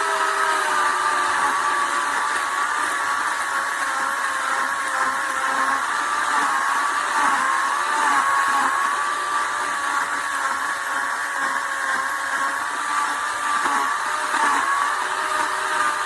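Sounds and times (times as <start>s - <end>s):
electric chainsaw motor whining: 0.0s - 16.0s.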